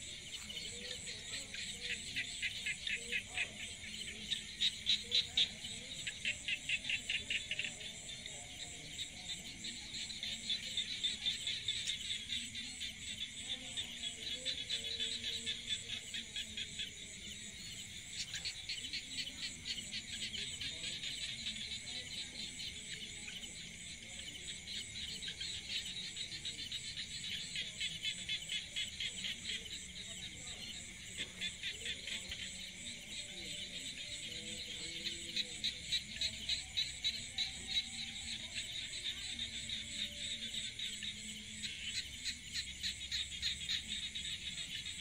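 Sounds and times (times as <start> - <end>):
insects pulsing trill: 0.1 - 45.0.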